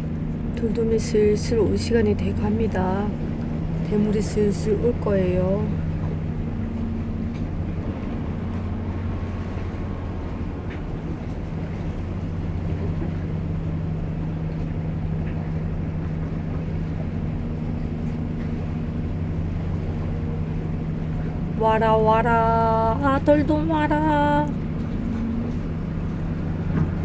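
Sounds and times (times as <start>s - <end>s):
boat engine droning: 0.0s - 27.0s
water lapping: 0.0s - 27.0s
wind: 0.0s - 27.0s.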